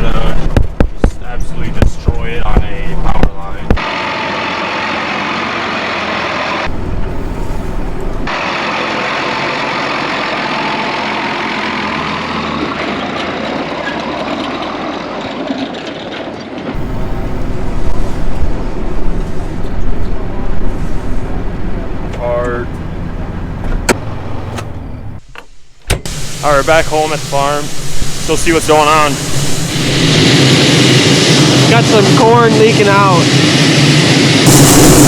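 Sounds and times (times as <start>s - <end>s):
farm vehicle engine drone: 0.0s - 35.0s.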